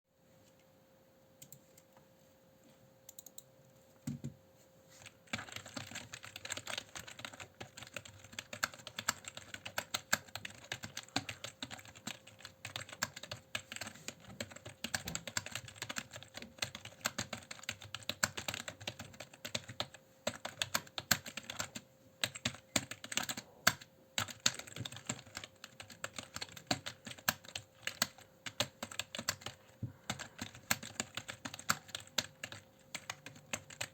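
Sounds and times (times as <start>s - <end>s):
faint steady hum: 0.1s - 33.9s
keyboard typing: 3.1s - 3.5s, 5.0s - 33.9s.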